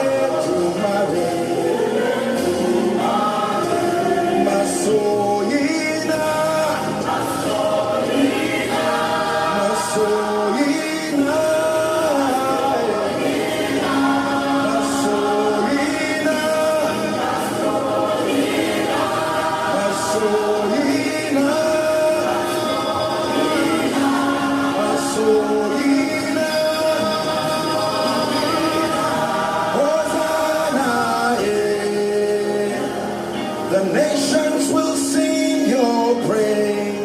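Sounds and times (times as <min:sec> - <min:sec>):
choir and congregation singing: 0:00.0 - 0:37.0.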